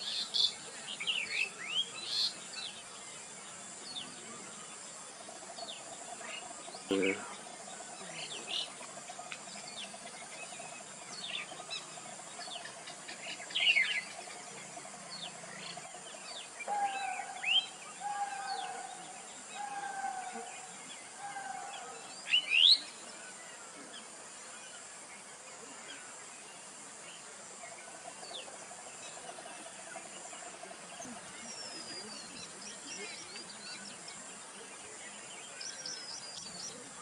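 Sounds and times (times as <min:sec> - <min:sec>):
birds chirping: 0:00.0 - 0:37.0
insect drone: 0:00.0 - 0:37.0.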